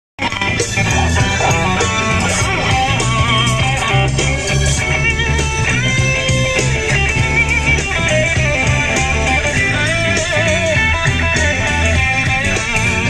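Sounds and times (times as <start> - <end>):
rock music with electric guitar: 0.2 - 13.0.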